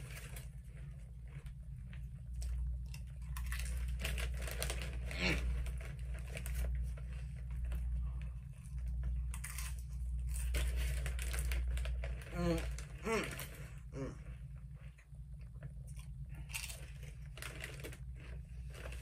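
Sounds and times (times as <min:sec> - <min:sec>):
chip bag crinkling: 0:00.0 - 0:19.0
chips crunching being chewed: 0:00.0 - 0:19.0
low steady hum: 0:00.0 - 0:19.0.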